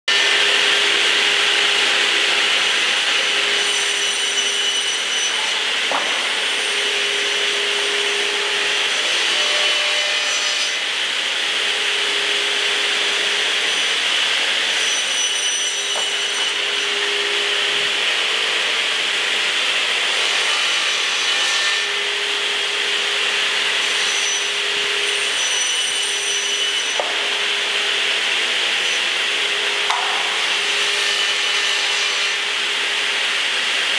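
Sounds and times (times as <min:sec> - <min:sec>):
circular saw cutting lumber: 0:00.1 - 0:33.9.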